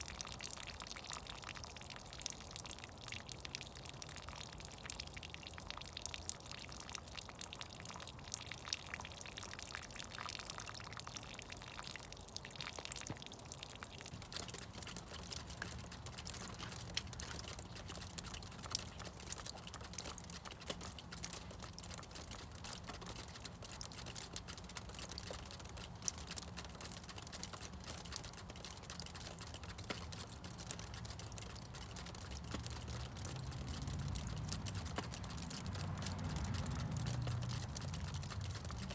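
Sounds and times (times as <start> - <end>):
meltwater dripping and trickling: 0.0 - 38.9.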